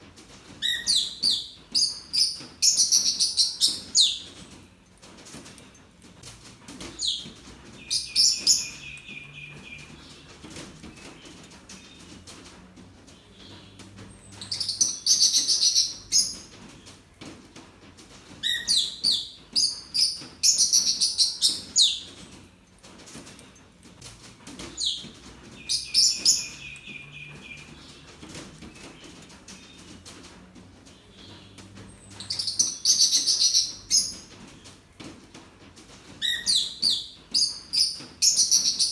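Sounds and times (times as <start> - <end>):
small birds chirping: 0.4 - 17.6, 18.2 - 35.1, 35.8 - 38.9.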